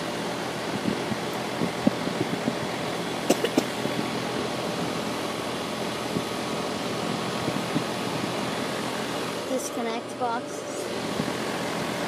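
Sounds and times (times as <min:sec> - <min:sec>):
air conditioner fan rushing: 0:00.0 - 0:12.0.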